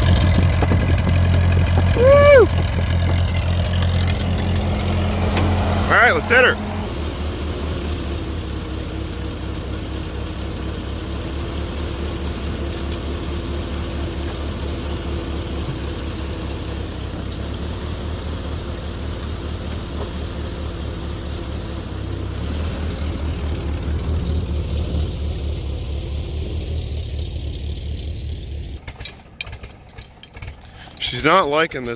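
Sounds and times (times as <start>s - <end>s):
tractor engine idling: 0.0s - 31.9s.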